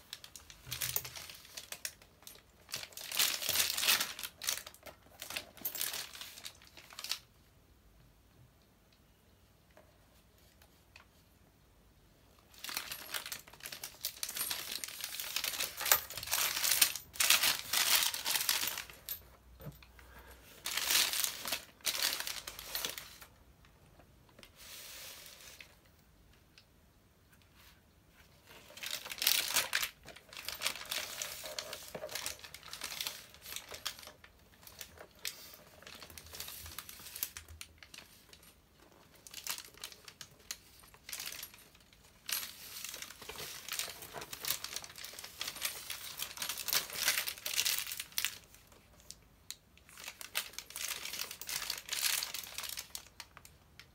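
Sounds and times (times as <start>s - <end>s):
plastic wrap crinkling: 0.0s - 7.3s, 12.4s - 23.4s, 28.4s - 53.9s.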